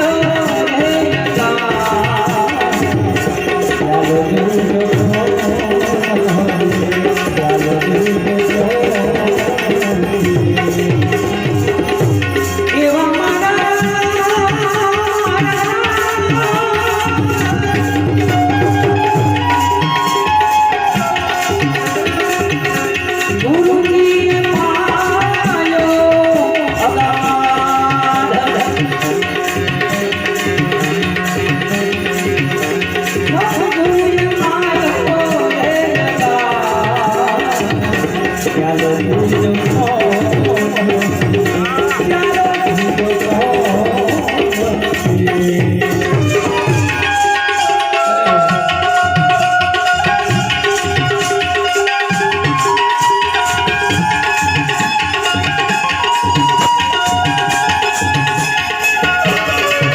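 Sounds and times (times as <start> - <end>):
harmonium melody: 0.0 - 59.9
tabla rhythm: 0.0 - 59.9.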